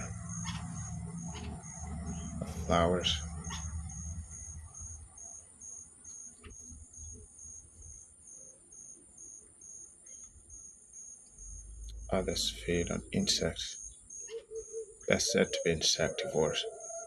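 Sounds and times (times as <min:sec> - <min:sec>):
continuous high trill: 0:00.0 - 0:17.0
crickets chirping: 0:00.0 - 0:17.0.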